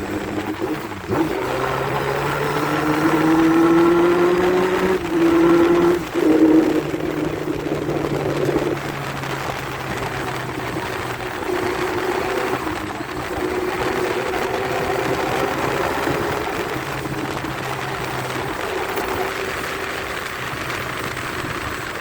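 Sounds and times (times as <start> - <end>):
broad rush of noise: 0.0 - 22.0
motorcycle engine running: 0.0 - 22.0.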